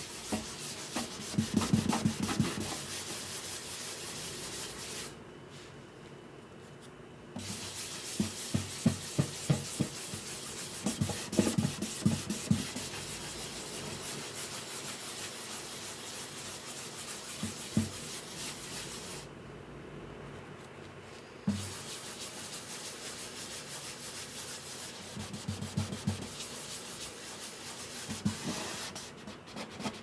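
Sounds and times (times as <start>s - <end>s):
sandpaper rubbing on wood: 0.0s - 5.2s, 7.4s - 19.3s, 21.5s - 29.1s.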